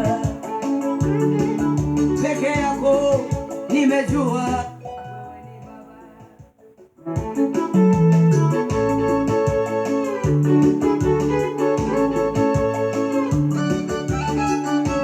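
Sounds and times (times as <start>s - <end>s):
bass notes: 0.0s - 3.4s, 4.1s - 15.0s
drum beat: 0.0s - 4.7s, 6.2s - 15.0s
keyboard chords: 0.0s - 15.0s.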